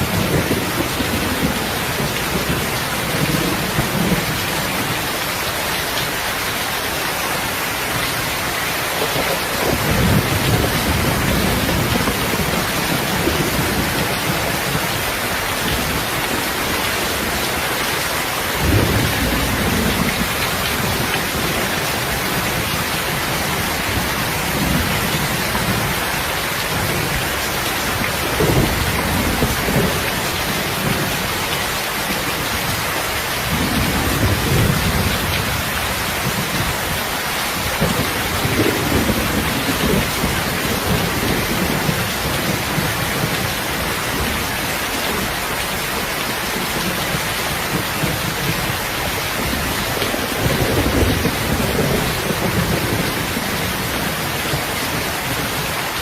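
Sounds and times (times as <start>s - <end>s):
distant thunder rumbles: 0.0s - 5.2s, 7.4s - 55.6s
steady rain: 0.0s - 56.0s.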